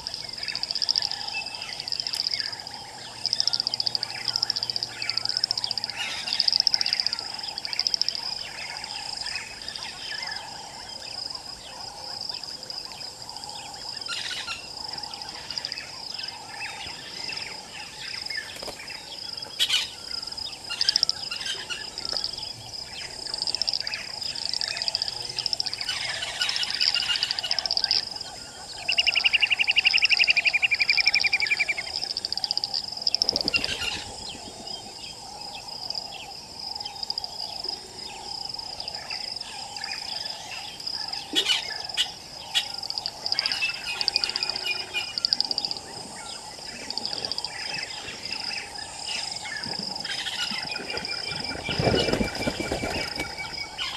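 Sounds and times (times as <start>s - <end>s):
birds calling: 0.0s - 53.9s
insects trilling: 0.0s - 53.9s.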